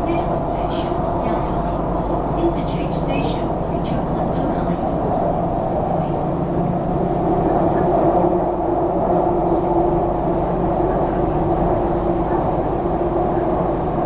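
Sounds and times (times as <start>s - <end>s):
rumble of train wheels on track: 0.0s - 14.0s.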